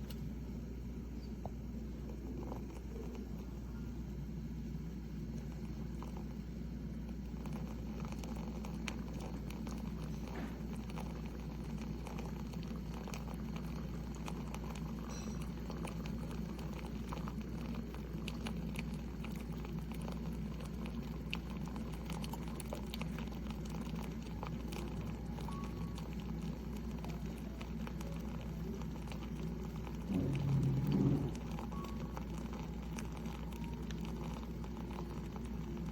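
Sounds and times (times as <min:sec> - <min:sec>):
coffee maker humming: 0:00.0 - 0:35.9.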